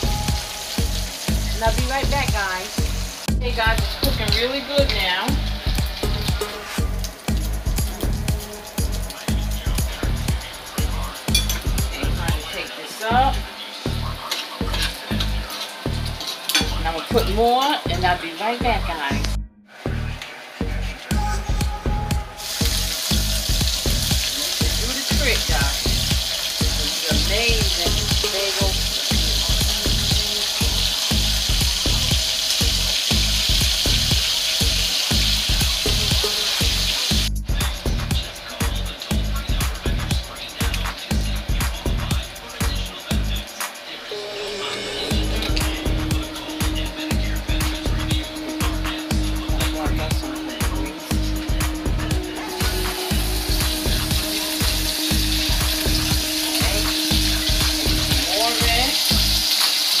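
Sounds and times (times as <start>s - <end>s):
bacon sizzling in a skillet: 0.0s - 19.3s, 22.3s - 60.0s
background music beat: 0.0s - 60.0s.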